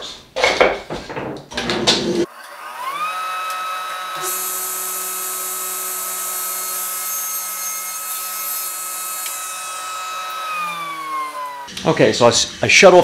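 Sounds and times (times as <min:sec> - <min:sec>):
table saw whining: 0:02.2 - 0:13.0.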